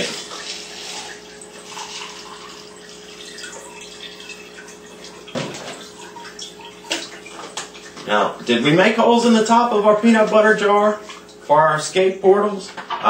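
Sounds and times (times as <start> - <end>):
water trickling and splashing: 0.0 - 11.6.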